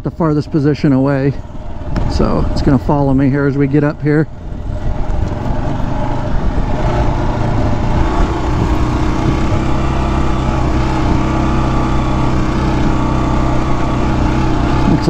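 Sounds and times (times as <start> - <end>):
motorcycle engine under load: 0.0 - 15.0
wind noise: 0.9 - 15.0.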